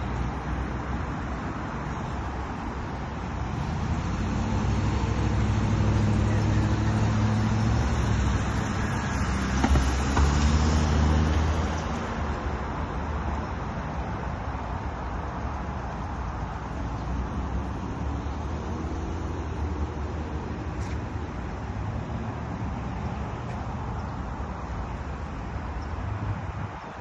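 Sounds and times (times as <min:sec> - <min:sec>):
steady traffic rumble: 0:00.0 - 0:27.0.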